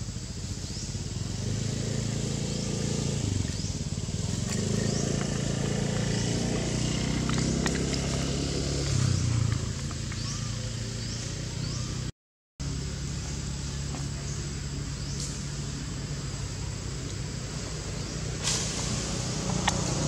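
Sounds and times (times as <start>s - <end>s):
motor engine humming: 0.0s - 20.0s.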